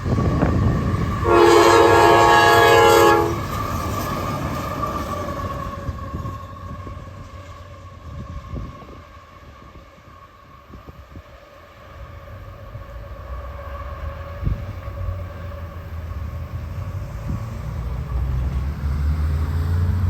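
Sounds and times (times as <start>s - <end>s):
diesel locomotives rumbling: 0.0s - 20.0s.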